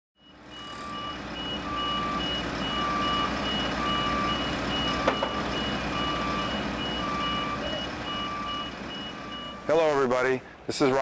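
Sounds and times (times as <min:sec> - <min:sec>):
high-pitched back-up alarm beeping: 0:00.2 - 0:09.8
low-pitched back-up alarm beeping: 0:00.2 - 0:09.9
low engine rumble: 0:00.2 - 0:11.0.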